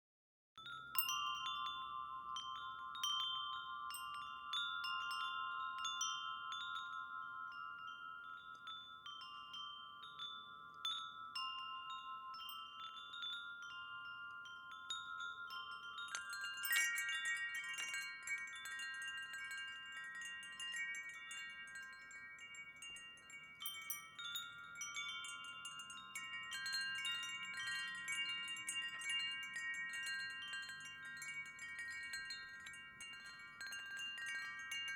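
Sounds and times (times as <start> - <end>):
wind chimes ringing: 0.6 - 34.9.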